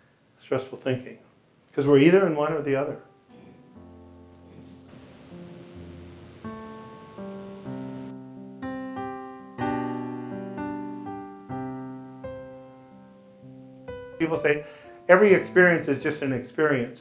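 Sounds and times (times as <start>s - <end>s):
slow piano music: 2.7s - 17.0s.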